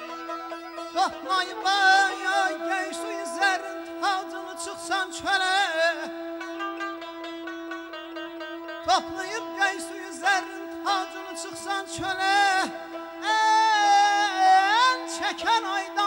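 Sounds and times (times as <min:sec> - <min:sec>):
man singing ornamented melody: 0:00.0 - 0:06.9, 0:08.8 - 0:16.0.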